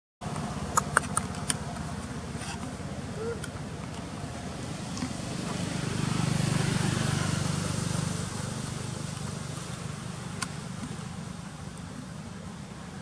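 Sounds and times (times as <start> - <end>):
vehicle engine running: 0.2 - 13.0.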